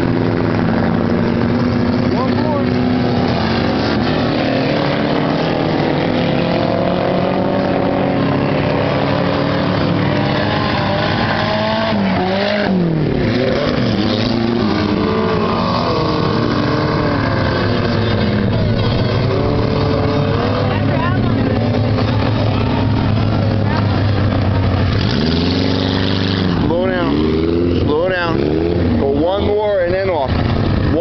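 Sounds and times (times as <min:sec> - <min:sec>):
race car engines accelerating: 0:00.0 - 0:31.0.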